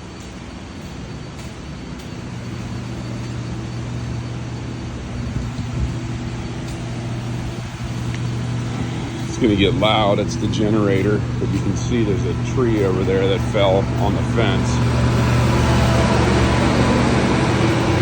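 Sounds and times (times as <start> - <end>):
generator engine humming: 0.0 - 18.0.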